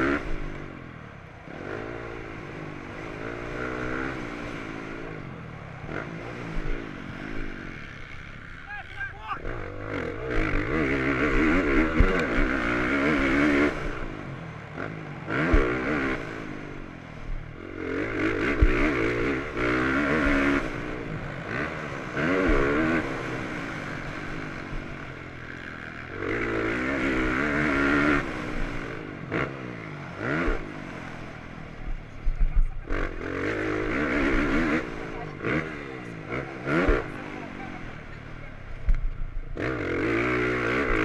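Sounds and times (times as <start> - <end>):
motocross bike engine revving: 0.0 - 41.0.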